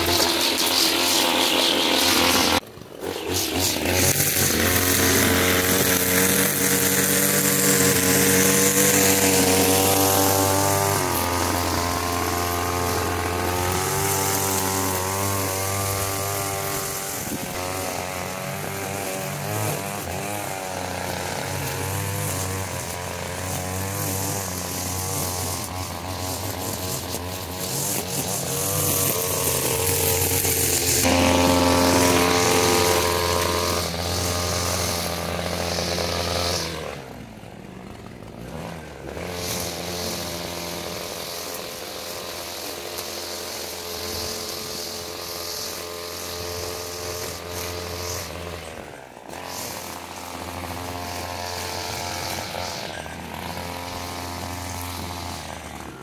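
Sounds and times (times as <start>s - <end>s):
strimmer engine cutting: 0.0s - 56.0s.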